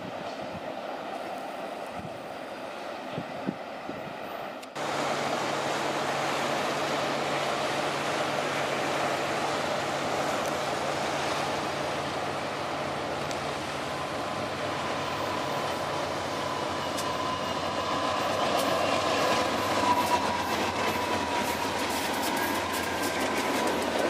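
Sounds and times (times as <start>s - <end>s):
diesel locomotives droning: 0.0s - 24.0s
freight train rumble: 0.0s - 24.0s.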